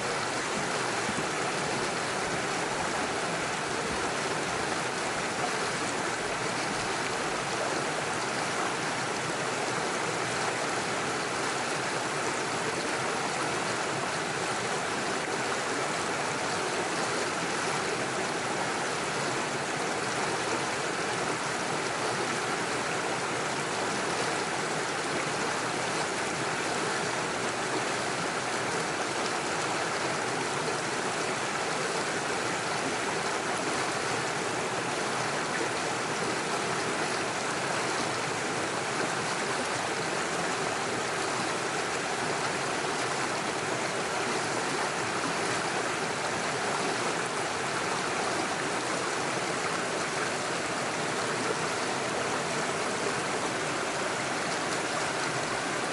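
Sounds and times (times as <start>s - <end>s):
stream rushing over stones: 0.0s - 55.9s.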